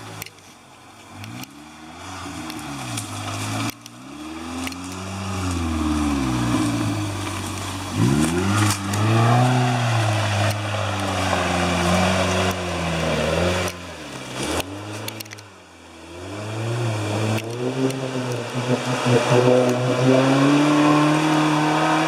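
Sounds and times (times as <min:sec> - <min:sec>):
off-road vehicle engine revving: 0:01.0 - 0:22.0.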